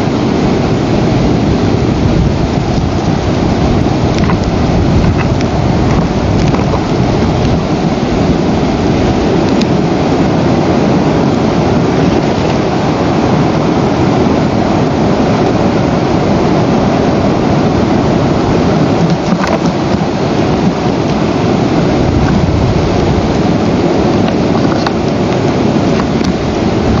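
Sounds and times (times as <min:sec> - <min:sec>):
loud rushing noise: 0:00.0 - 0:27.0.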